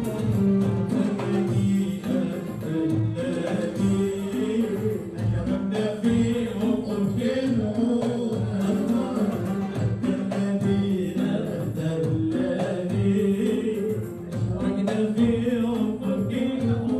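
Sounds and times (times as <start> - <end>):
hand drums beating: 0.0 - 16.9.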